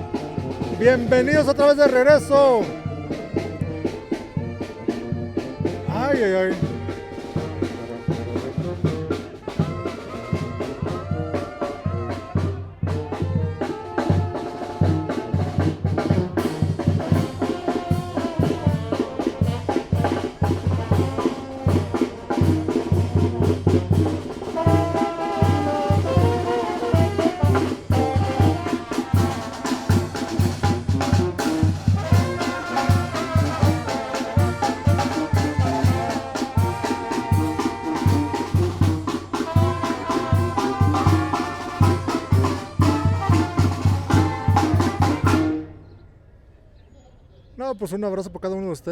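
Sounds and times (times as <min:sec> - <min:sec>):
bass drum beat: 0:00.0 - 0:11.0, 0:14.3 - 0:45.5
brass band playing: 0:00.0 - 0:46.0
trumpets and trombones melody: 0:00.0 - 0:46.0.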